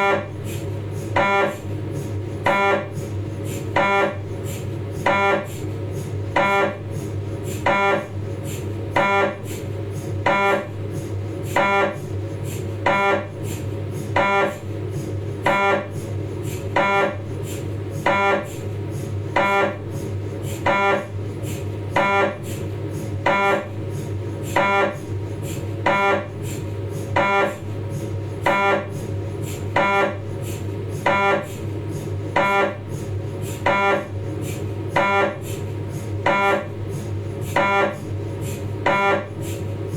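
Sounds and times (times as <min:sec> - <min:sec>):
mri scanner buzzing beeps: 0:02.4 - 0:08.2, 0:09.0 - 0:10.8, 0:11.5 - 0:39.7.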